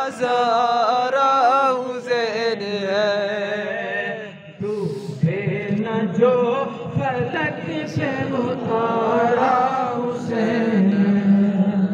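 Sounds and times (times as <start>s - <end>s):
man chanting into a microphone: 0.0s - 11.9s.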